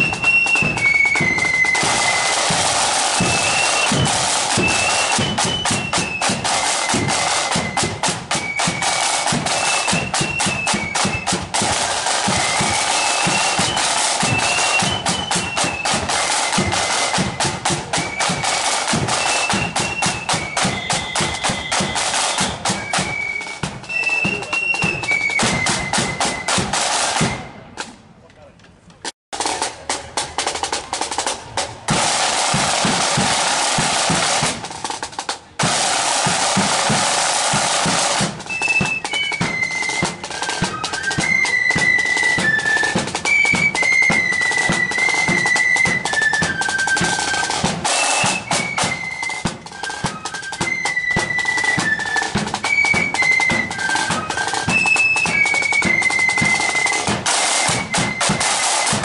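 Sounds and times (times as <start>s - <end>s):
flutes playing high melody: 0.0s - 27.7s, 35.6s - 59.0s
snare drum rolls: 0.0s - 28.0s, 29.4s - 59.0s.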